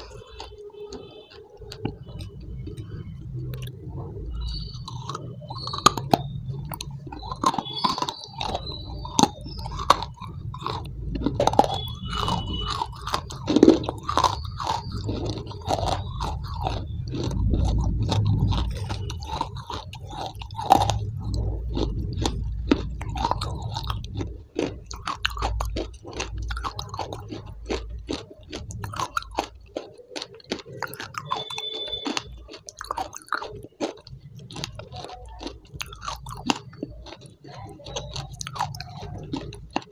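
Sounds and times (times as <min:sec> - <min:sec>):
close chewing with crunches: 0:00.0 - 0:39.9
mouth clicks: 0:00.0 - 0:39.9.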